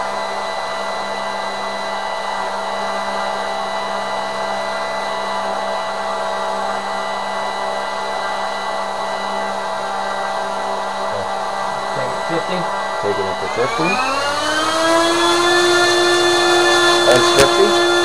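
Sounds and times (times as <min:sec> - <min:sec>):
electric motor spinning propeller: 0:00.0 - 0:18.0.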